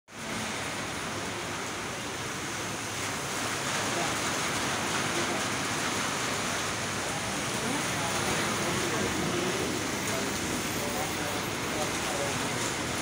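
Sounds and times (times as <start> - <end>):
rain and wind hiss: 0.1 - 13.0
vehicle passing on wet road: 0.1 - 13.0.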